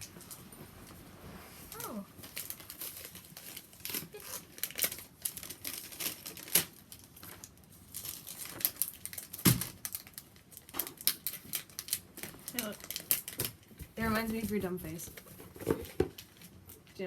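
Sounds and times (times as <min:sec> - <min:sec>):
crinkling and rustling handling: 0:00.0 - 0:17.0.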